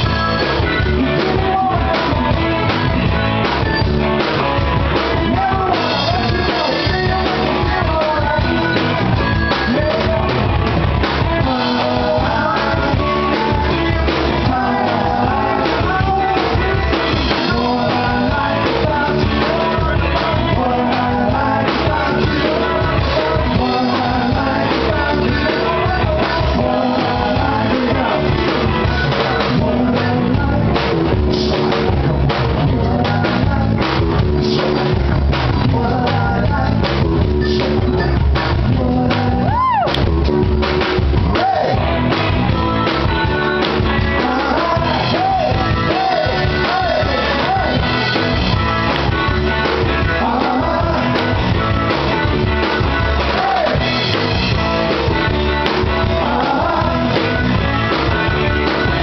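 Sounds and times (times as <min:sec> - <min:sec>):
drum kit: 0:00.0 - 0:59.0
electric guitars: 0:00.0 - 0:59.0
man singing: 0:00.0 - 0:59.0.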